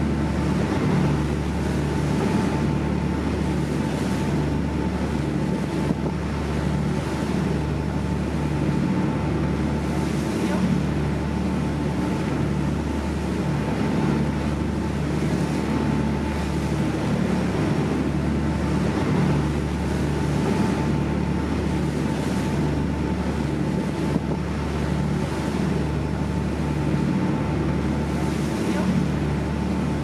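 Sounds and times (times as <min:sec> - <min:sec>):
boat engine droning: 0:00.0 - 0:30.0
water rushing along hull: 0:00.0 - 0:30.0
wind: 0:00.0 - 0:30.0.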